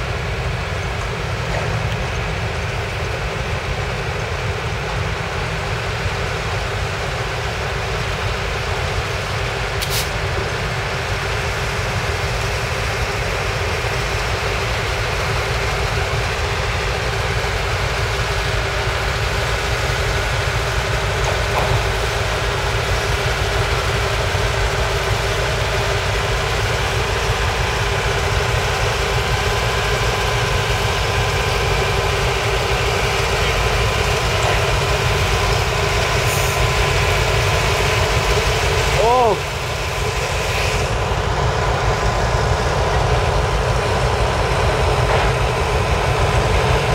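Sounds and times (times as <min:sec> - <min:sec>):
diesel locomotive engine rumble: 0:00.0 - 0:46.9.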